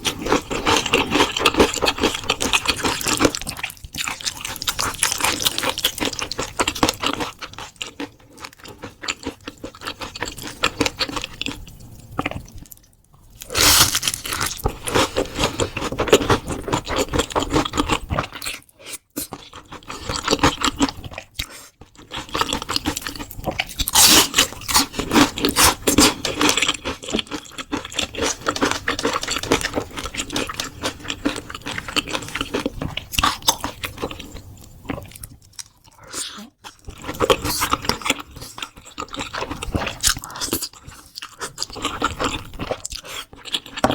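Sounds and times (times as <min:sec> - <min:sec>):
crunching fried shrimp: 0:00.0 - 0:43.9.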